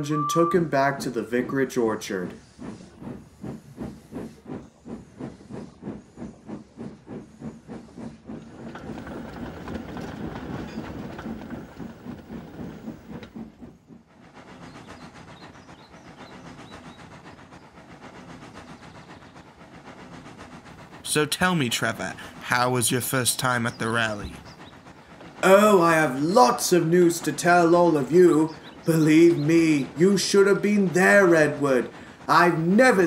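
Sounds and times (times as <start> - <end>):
steam locomotive chuffing: 0.2 - 33.0
wheels clattering on rail: 2.6 - 17.1, 17.8 - 33.0.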